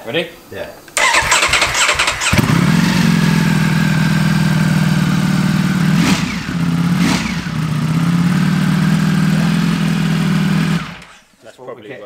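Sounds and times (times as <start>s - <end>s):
motorcycle engine idling: 1.0s - 11.2s.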